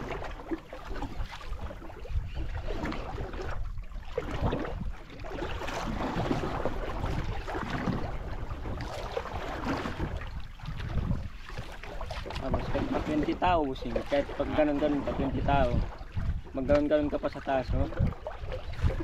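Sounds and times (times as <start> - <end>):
water sloshing around boat: 0.0 - 19.0
wind buffeting microphone: 0.0 - 19.0.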